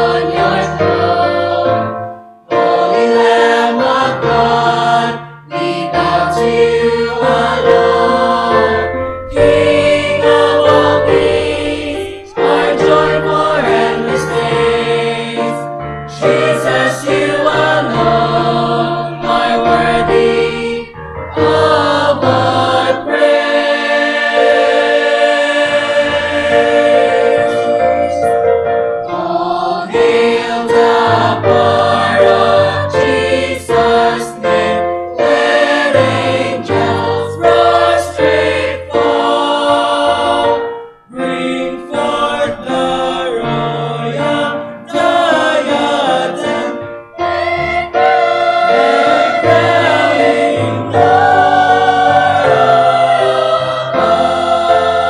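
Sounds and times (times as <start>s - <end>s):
mixed choir singing a hymn: 0.0s - 55.0s.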